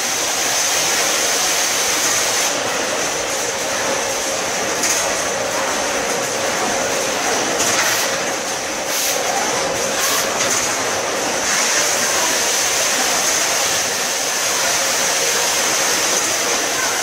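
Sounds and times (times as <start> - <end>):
packing machine whining and humming: 0.0 - 17.0.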